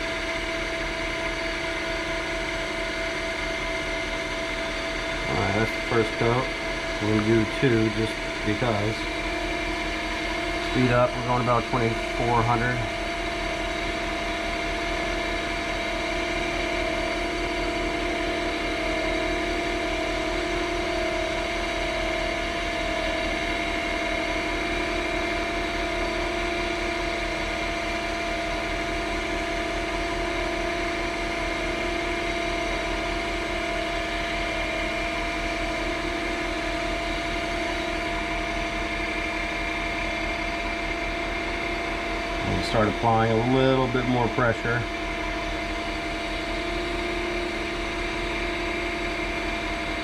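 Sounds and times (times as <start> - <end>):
lathe motor whine: 0.0 - 50.0.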